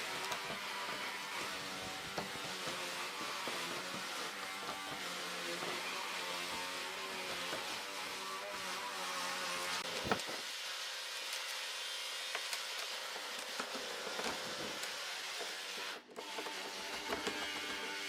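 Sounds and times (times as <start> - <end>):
hand tool scraping wood: 0.0 - 10.7, 11.3 - 18.0.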